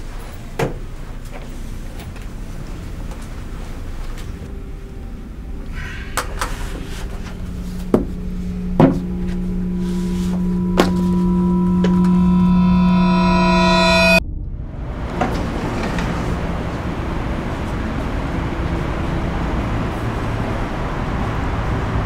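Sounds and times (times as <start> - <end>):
synthesized drone: 2.1 - 22.0.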